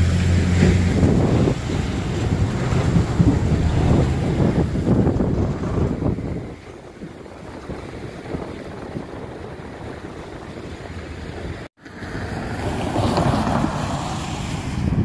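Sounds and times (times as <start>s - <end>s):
passing car tyres and engine: 0.0s - 15.0s
wind rumbling on microphone: 0.0s - 15.0s.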